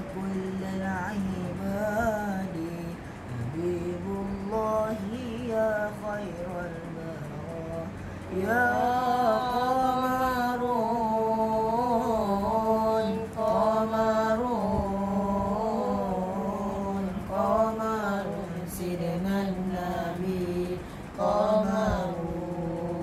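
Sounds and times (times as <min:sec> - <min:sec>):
boy chanting devotional song: 0:00.0 - 0:23.0.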